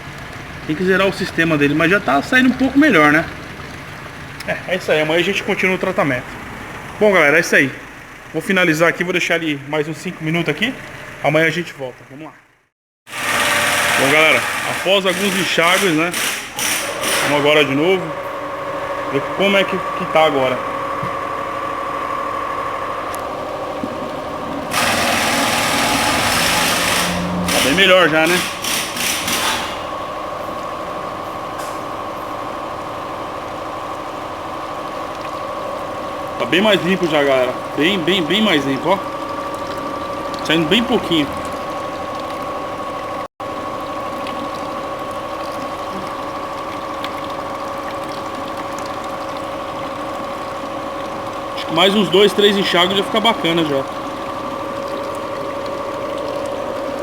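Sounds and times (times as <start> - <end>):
water running through pipes: 0.0 - 12.4, 13.1 - 57.0
car engine idling: 0.0 - 12.7, 14.0 - 57.0.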